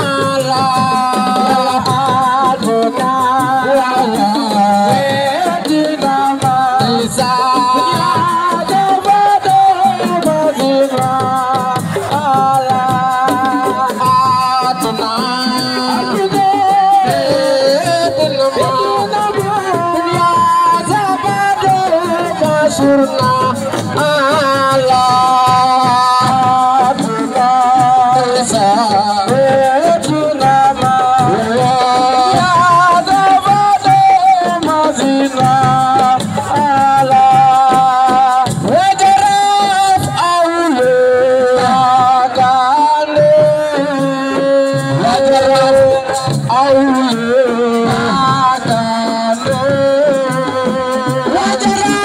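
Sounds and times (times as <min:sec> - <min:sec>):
drums and rattles: 0:00.0 - 0:52.0
person singing: 0:00.0 - 0:52.0.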